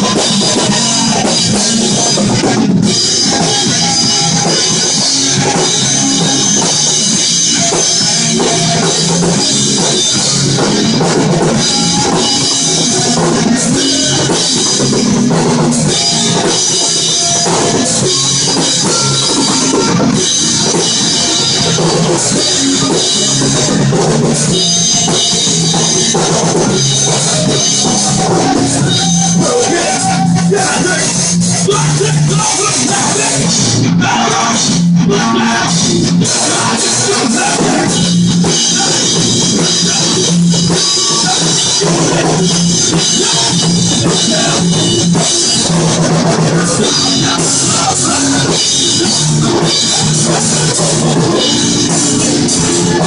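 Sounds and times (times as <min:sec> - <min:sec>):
loud rock music with drums: 0:00.0 - 0:53.0.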